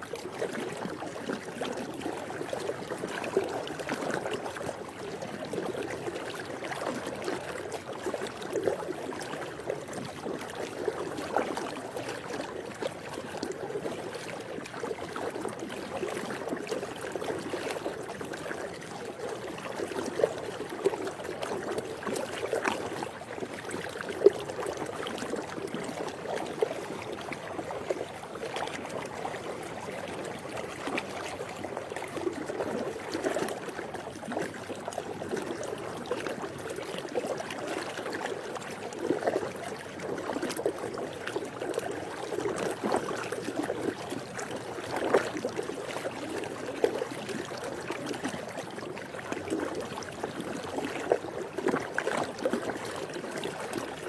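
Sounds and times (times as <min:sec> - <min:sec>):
pool water lapping and sloshing: 0:00.0 - 0:54.0
small water splashes: 0:00.0 - 0:54.0.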